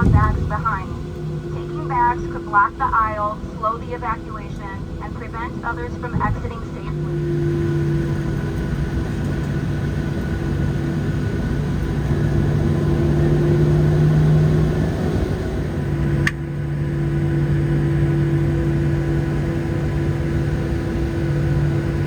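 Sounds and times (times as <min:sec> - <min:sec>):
jet engines humming in cabin: 0:00.0 - 0:22.0.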